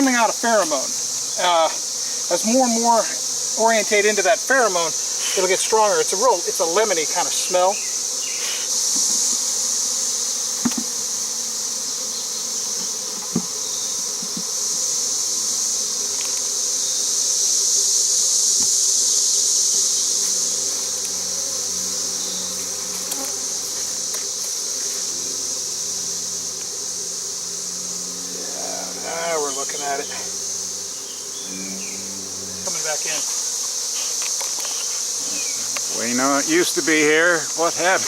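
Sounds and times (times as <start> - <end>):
high-pitched insect drone: 0.0 - 38.0
honey bees buzzing: 0.0 - 38.0.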